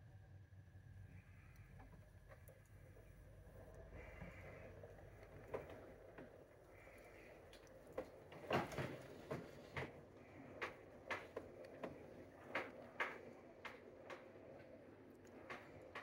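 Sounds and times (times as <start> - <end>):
model train wheels clicking: 1.1 - 16.0.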